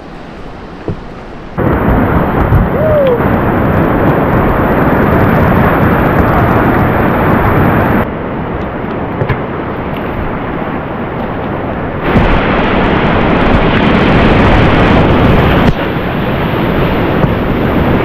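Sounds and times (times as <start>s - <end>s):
river whitewater rushing: 0.0s - 18.0s.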